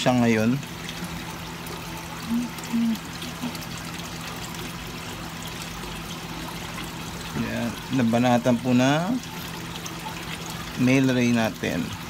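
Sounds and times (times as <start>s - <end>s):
aquarium water trickling: 0.0s - 12.0s
low steady hum: 0.0s - 12.0s.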